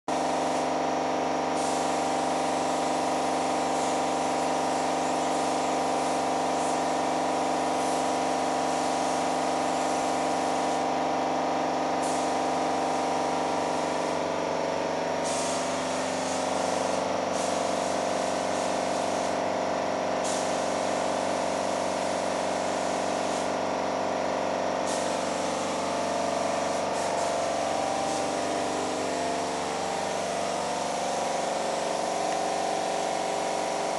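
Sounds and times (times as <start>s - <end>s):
air compressor humming: 0.1s - 33.9s
spray gun hissing: 0.1s - 33.9s.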